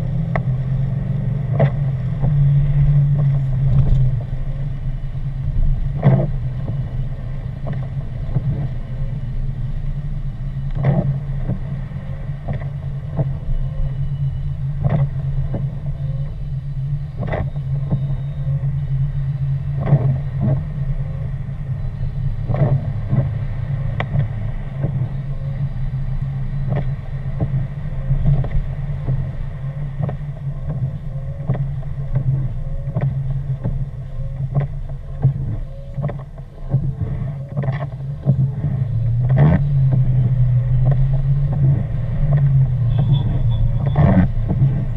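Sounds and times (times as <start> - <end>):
engine and tyres humming: 0.0 - 44.9.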